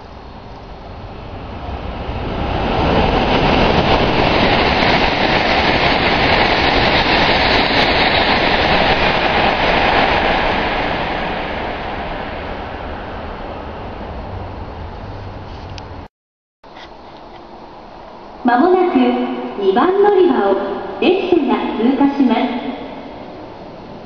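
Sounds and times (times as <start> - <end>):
train passing at speed: 0.0 - 16.1, 16.8 - 24.0.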